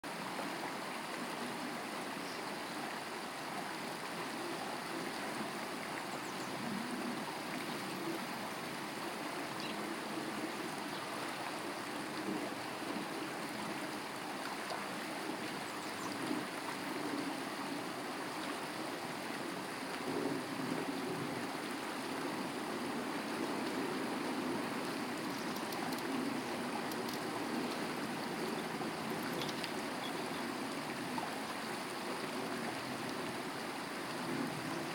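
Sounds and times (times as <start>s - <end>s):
stream running water: 0.0s - 34.9s.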